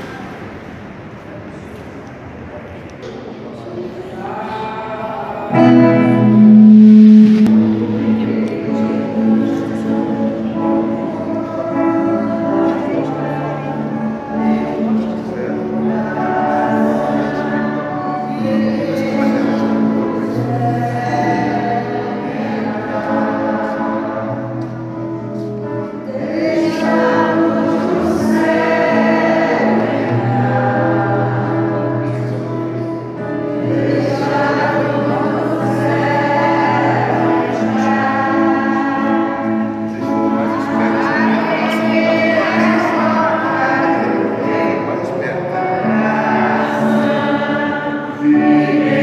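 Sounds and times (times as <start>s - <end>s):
group singing a hymn: 4.1s - 49.0s
low accompaniment: 5.4s - 49.0s.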